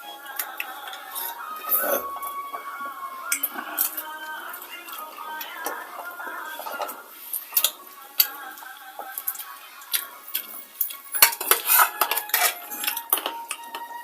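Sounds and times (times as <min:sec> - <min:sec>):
metal utensils clinking on dishes: 0:00.0 - 0:14.0.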